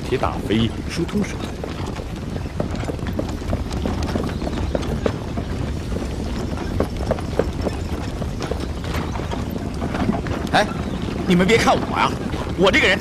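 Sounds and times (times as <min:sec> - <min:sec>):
horse hooves clopping on ground: 0:00.0 - 0:13.0.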